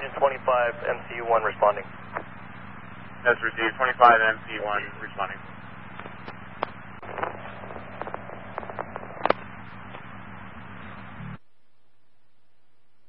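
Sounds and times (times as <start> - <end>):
radio crackles and pops: 0.0 - 11.8
radio hum and hiss: 0.0 - 13.0.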